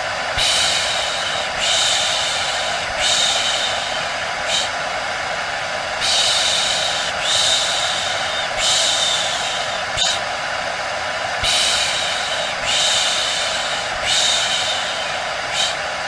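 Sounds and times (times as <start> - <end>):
hair dryer rushing: 0.0 - 16.0
high hiss: 0.0 - 16.0.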